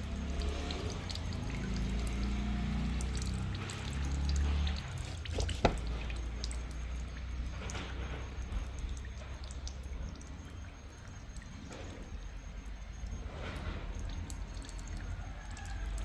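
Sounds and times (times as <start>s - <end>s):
liquid dripping and pouring: 0.0s - 16.0s.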